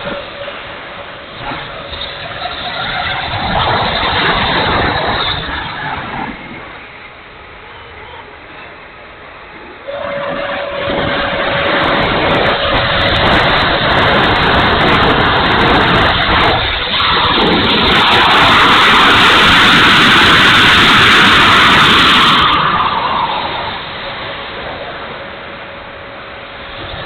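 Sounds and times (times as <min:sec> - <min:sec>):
wind on microphone: 0:00.0 - 0:07.2, 0:09.5 - 0:25.4.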